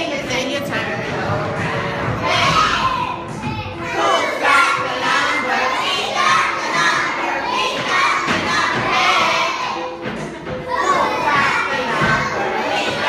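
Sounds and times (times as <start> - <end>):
children shouting and cheering: 2.0 - 13.0.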